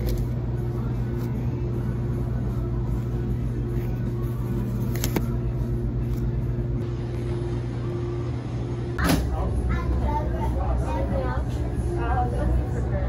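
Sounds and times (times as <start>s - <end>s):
freezer electrical hum: 0.0s - 13.0s.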